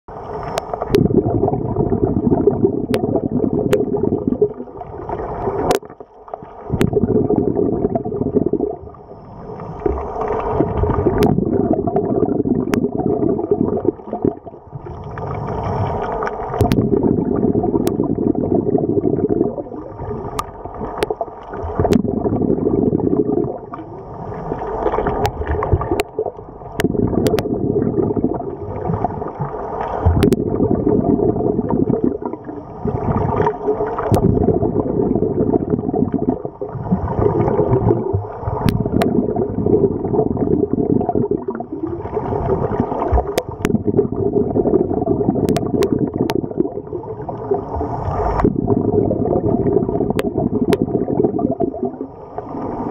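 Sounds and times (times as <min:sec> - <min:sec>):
underwater regulator breathing bubbles: 0:00.3 - 0:06.0, 0:06.7 - 0:52.9.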